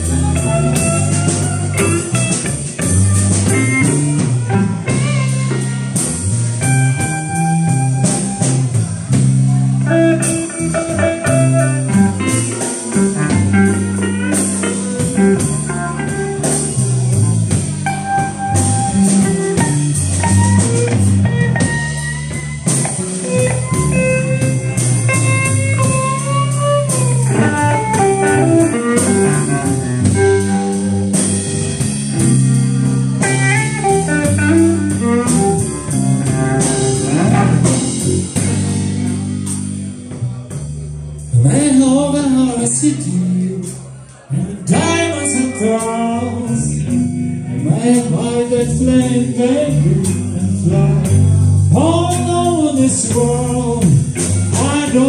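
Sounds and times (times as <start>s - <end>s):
bass guitar: 0.0s - 55.0s
drum kit: 0.0s - 55.0s
electric guitar lead lines: 0.0s - 55.0s.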